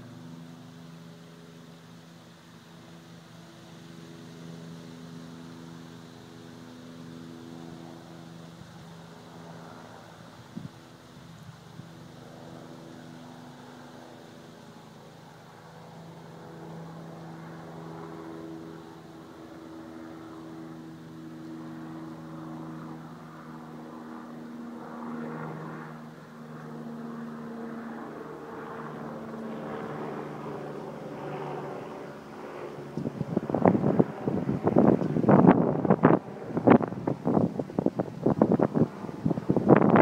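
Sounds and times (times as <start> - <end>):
distant aircraft engine drone: 0.0 - 40.0.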